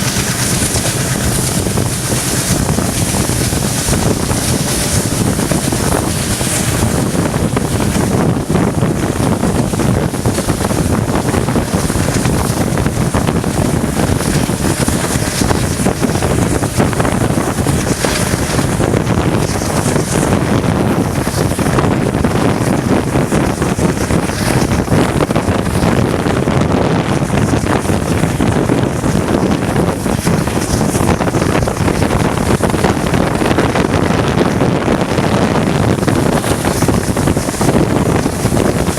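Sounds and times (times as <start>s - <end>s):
diesel locomotive engine running: 0.0s - 38.9s
wind buffeting microphone: 0.0s - 38.9s.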